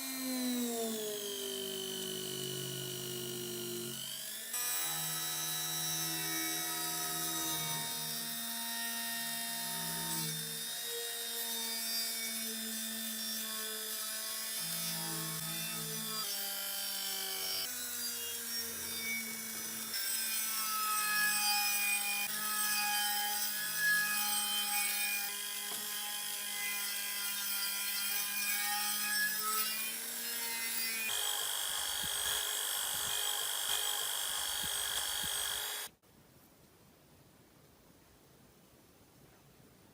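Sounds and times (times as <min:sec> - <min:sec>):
rotary tool grinding metal: 0:00.0 - 0:35.9.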